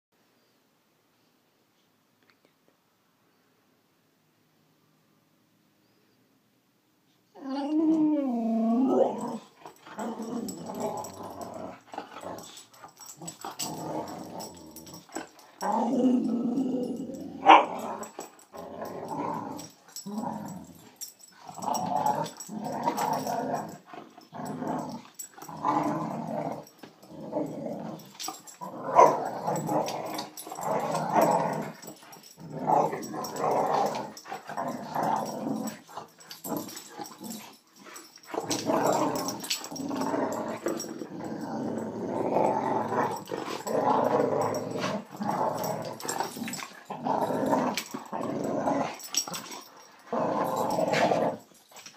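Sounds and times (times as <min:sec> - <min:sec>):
dogs growling: 0:07.4 - 0:51.9.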